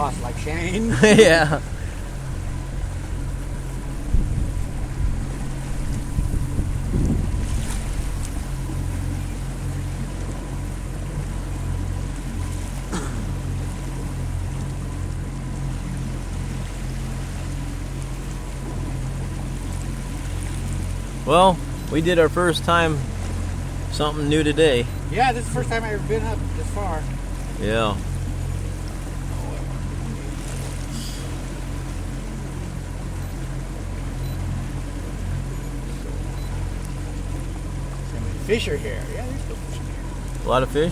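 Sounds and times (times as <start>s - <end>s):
boat motor humming: 0.0s - 40.9s
water rushing past hull: 0.0s - 40.9s.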